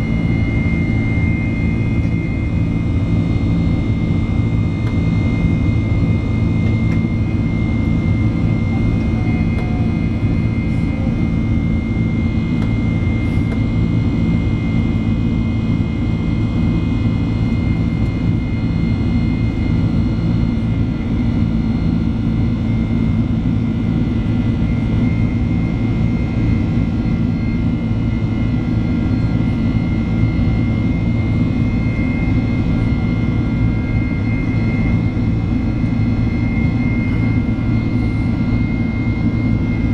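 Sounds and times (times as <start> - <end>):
jet engine and airflow rumble: 0.0 - 39.9
steady high whine: 0.0 - 39.9.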